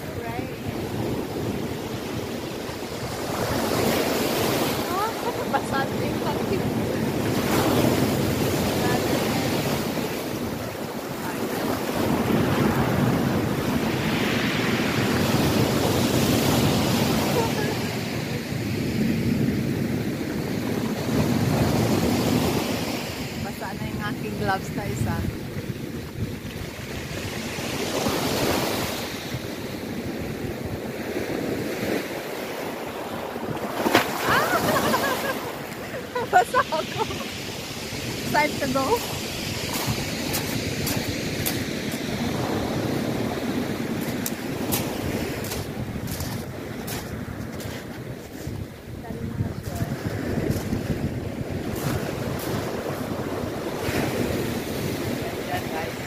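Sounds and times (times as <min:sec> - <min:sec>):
waves breaking on pebble beach: 0:00.0 - 0:56.0
wind buffeting microphone: 0:00.0 - 0:56.0.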